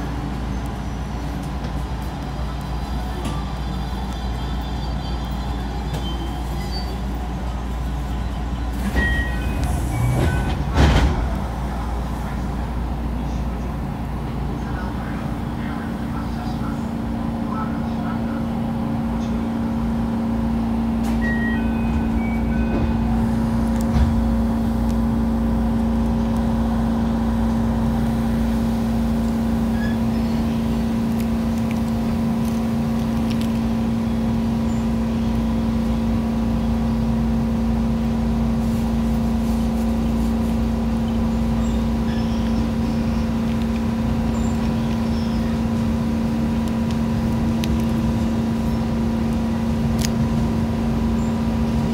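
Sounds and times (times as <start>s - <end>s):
electric train hum and rumble: 0.0s - 51.9s.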